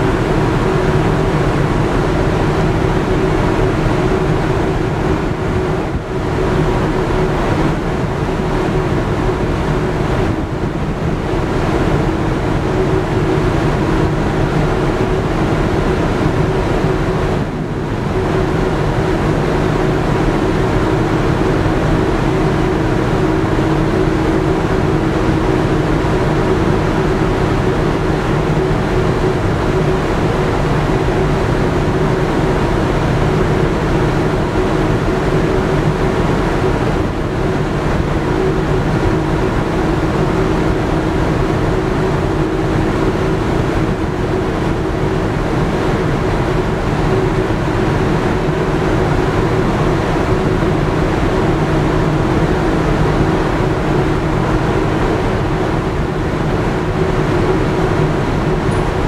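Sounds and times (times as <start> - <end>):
ship machinery hum: 0.0 - 59.0
water rushing along hull: 0.0 - 59.0.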